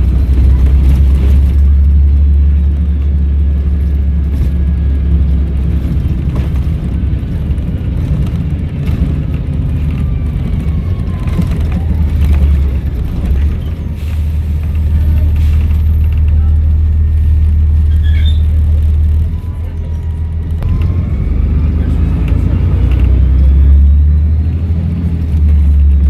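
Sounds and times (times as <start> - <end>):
bus diesel engine rumbling: 0.0 - 26.0.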